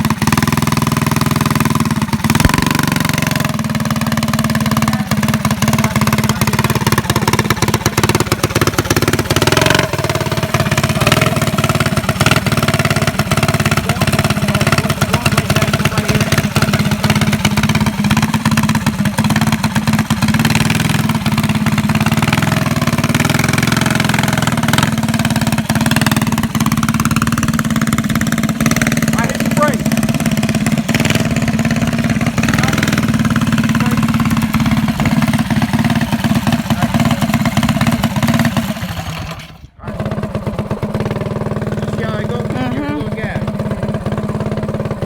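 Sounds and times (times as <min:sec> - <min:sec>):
small four-stroke engine running: 0:00.0 - 0:45.0.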